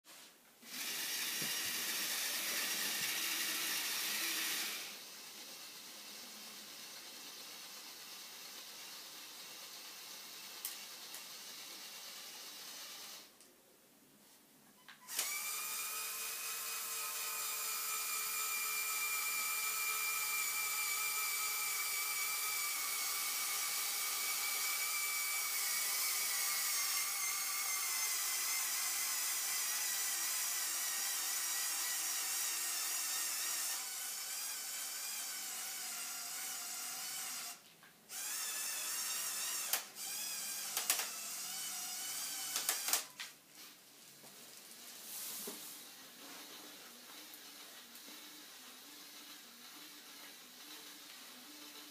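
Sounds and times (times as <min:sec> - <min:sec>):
toy electric motors whining: 0:00.6 - 0:13.3, 0:15.0 - 0:43.2, 0:45.7 - 0:51.9.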